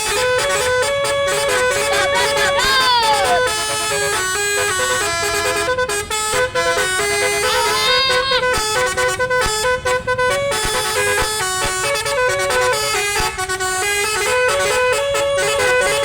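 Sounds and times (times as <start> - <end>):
musical air horn melody: 0.0 - 16.0.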